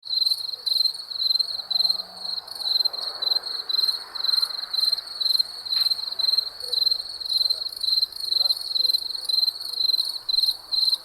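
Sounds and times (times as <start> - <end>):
crickets chirping: 0.1 - 11.0.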